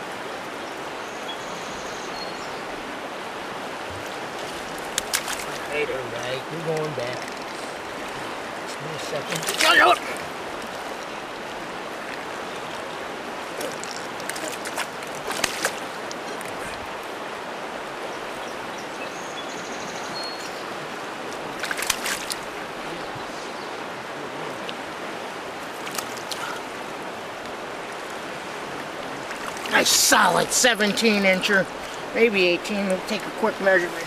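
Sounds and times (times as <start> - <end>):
water rushing around boat: 0.0 - 34.0.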